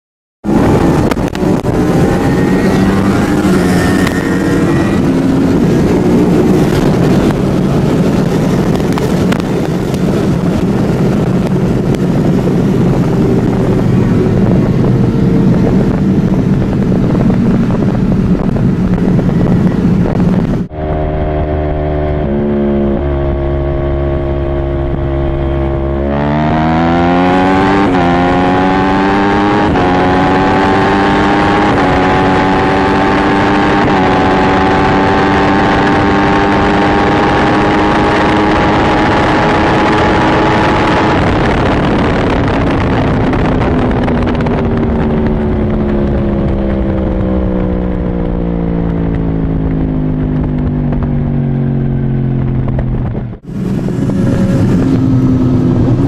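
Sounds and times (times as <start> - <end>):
car engine at full throttle: 0.4 - 56.0
motorcycle engine revving: 0.4 - 56.0
wind and road noise: 0.4 - 56.0.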